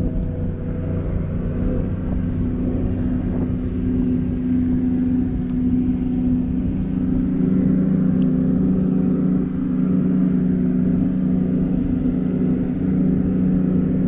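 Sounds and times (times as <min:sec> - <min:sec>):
low motor hum: 0:00.0 - 0:14.0
wind rumbling on microphone: 0:00.0 - 0:14.0.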